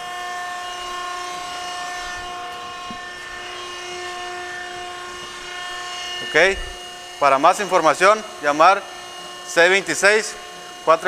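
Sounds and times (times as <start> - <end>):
hydraulic pump whine: 0.0 - 11.0.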